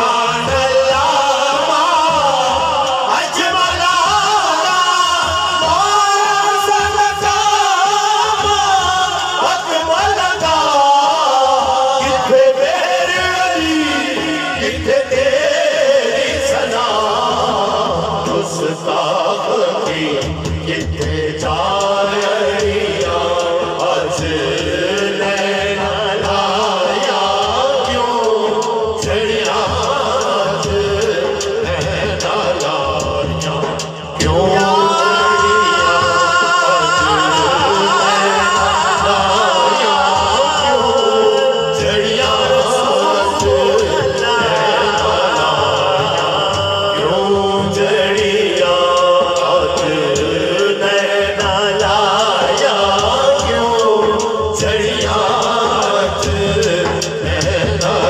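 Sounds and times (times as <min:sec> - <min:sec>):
men singing through loudspeakers: 0:00.0 - 0:58.0.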